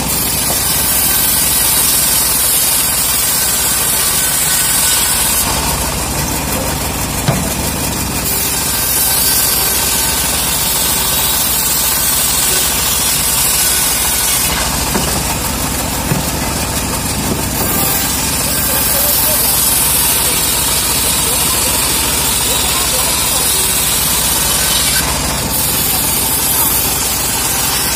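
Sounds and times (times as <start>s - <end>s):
band sawmill cutting log: 0.0s - 27.9s.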